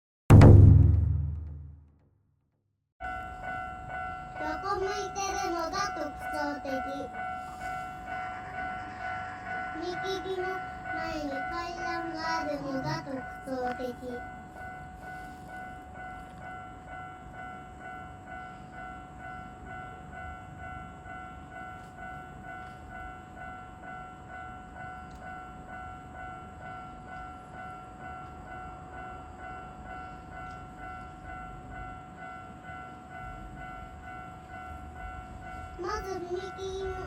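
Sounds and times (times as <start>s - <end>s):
level crossing warning bell: 3.0s - 37.0s.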